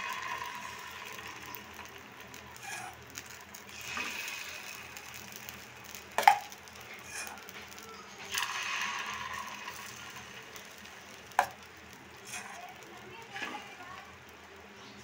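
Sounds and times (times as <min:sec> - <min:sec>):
batter sizzling in hot pan: 0:00.0 - 0:15.0.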